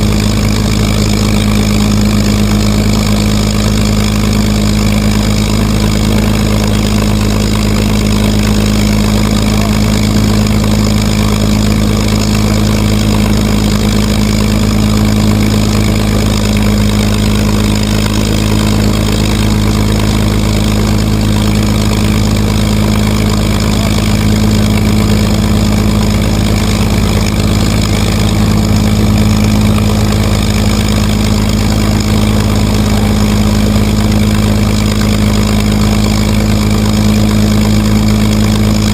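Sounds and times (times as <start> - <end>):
aircraft engine idling: 0.0 - 38.9.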